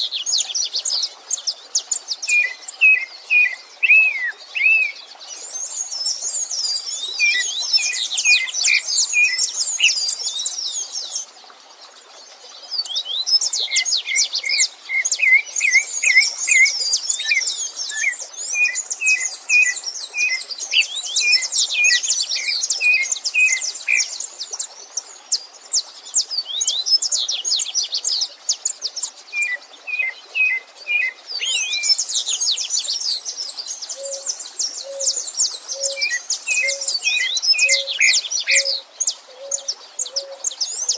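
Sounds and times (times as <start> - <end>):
songbirds warbling: 0.0 - 40.9.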